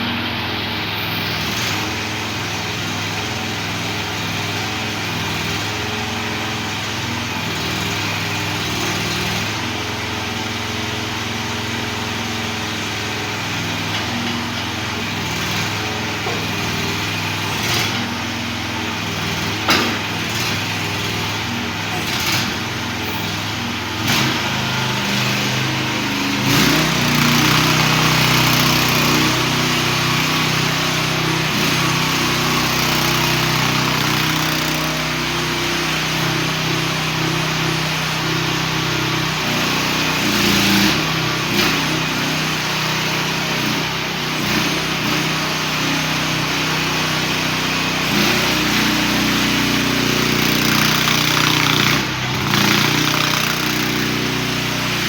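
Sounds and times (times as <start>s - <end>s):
excavator clanking: 0.0s - 55.0s
small excavator engine running: 0.0s - 55.0s.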